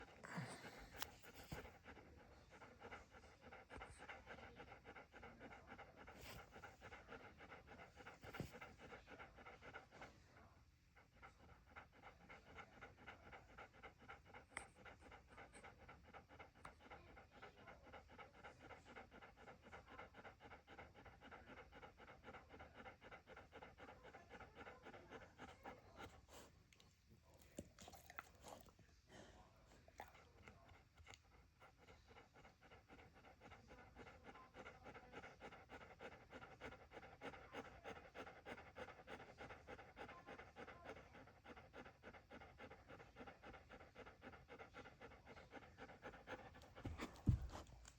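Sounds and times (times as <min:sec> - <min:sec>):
dog panting rapidly: 0:00.0 - 0:47.9.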